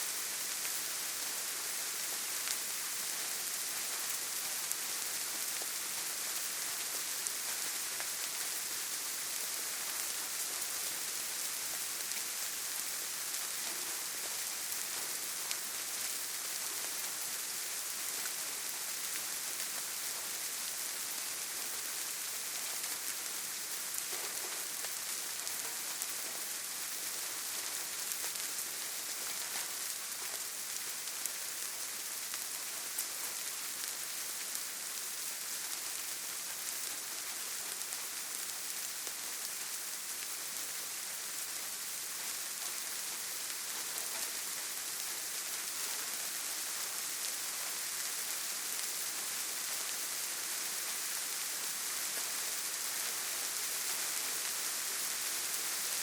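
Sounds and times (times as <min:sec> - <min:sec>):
rain on leaves and ground: 0:00.0 - 0:56.0.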